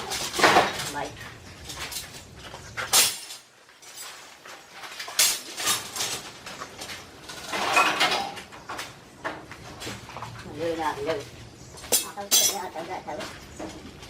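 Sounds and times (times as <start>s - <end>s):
dishes and utensils clinking: 0.0s - 10.4s, 11.8s - 13.9s.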